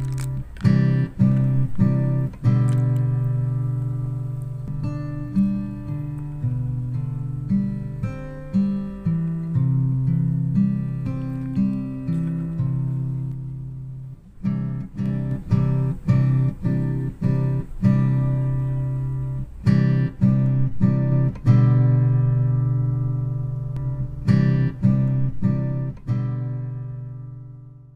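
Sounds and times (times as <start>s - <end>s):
acoustic guitar music: 0.0s - 27.9s.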